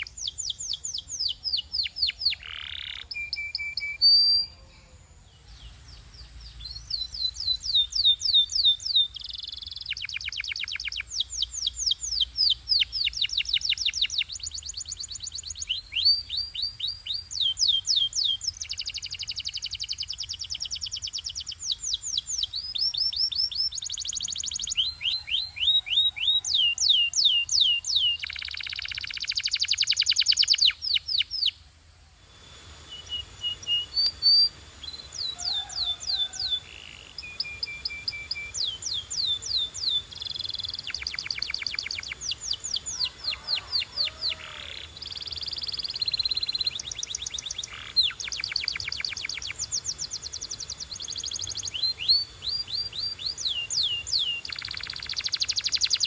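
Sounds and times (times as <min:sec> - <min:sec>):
canary singing trills: 0:00.0 - 0:31.6, 0:32.4 - 0:56.0.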